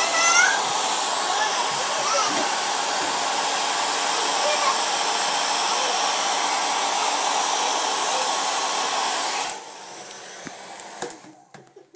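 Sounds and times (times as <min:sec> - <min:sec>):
hair dryer blowing: 0:00.0 - 0:11.7.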